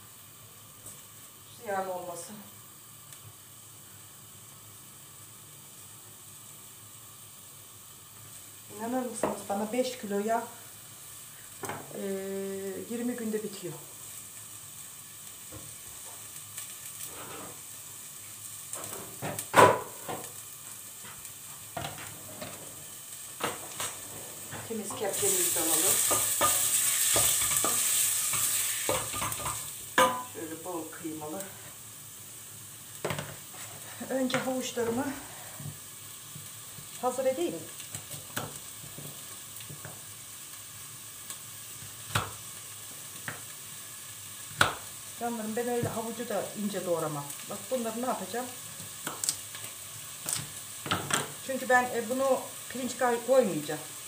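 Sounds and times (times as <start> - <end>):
meat sizzling in pot: 0.0 - 54.0
steady background hiss: 0.0 - 54.0.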